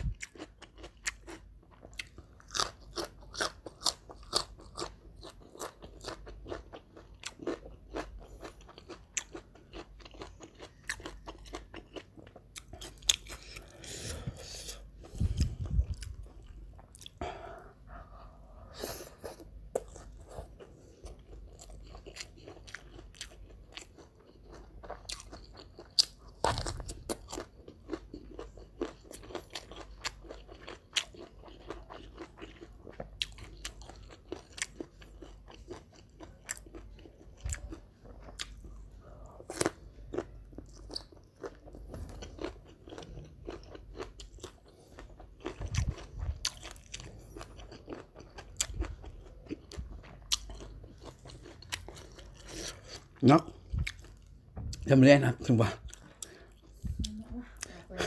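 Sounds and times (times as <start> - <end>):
chewing with crunches: 0.0 - 54.9, 55.5 - 58.0.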